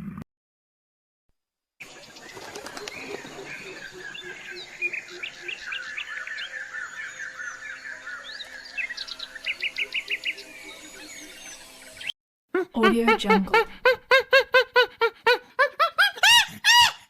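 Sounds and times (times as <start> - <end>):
birds chirping and calling: 1.8 - 17.0.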